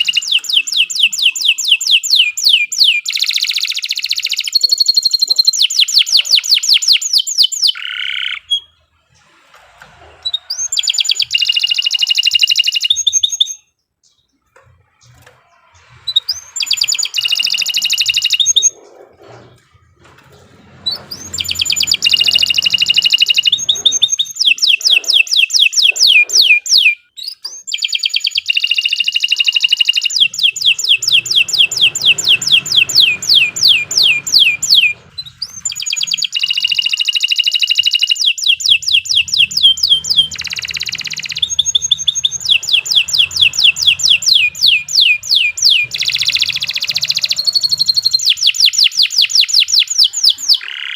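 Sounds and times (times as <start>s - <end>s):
canary singing trills: 0.0s - 9.5s, 10.1s - 19.7s, 20.4s - 50.9s.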